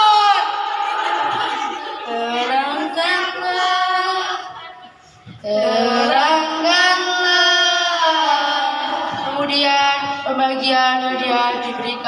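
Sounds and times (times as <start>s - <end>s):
girl singing: 2.0s - 12.0s.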